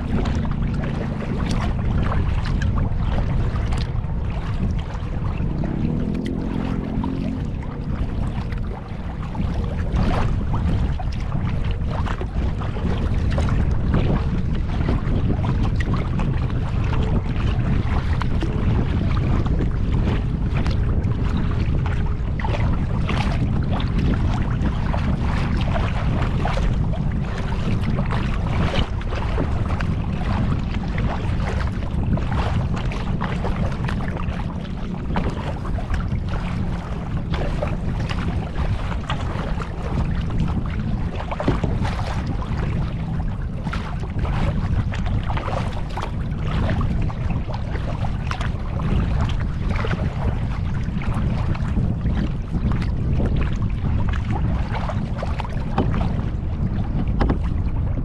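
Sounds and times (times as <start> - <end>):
paddle splashes and drips: 0.0 - 58.0
wind rumbling on microphone: 0.0 - 58.0.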